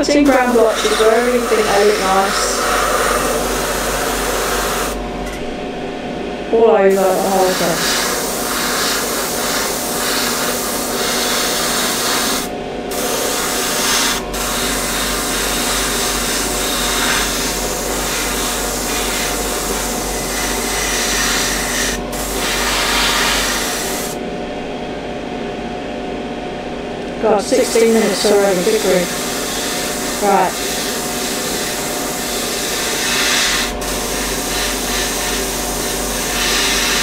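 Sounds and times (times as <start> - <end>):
airbrush hissing: 0.0 - 5.0, 6.9 - 24.2, 27.5 - 37.0
steady low hum: 0.0 - 37.0.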